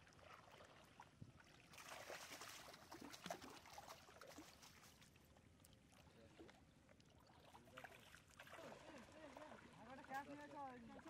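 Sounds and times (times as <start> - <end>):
net splashing in shallow water: 0.0 - 11.0.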